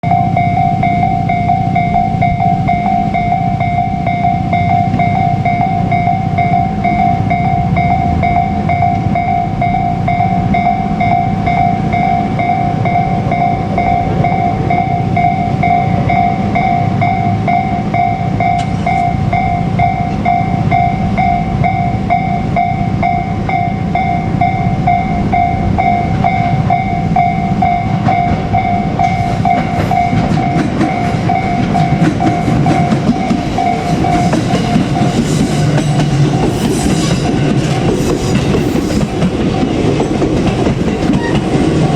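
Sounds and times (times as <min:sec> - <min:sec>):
level-crossing warning bell ringing: 0:00.0 - 0:41.9.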